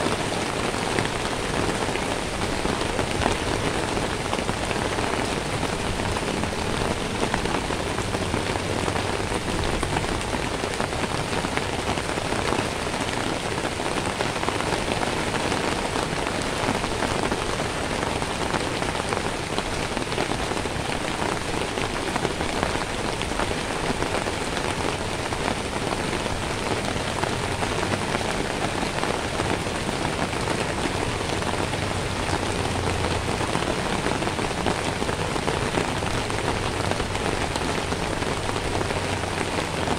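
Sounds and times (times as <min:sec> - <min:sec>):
rain on wet pavement: 0:00.0 - 0:39.9.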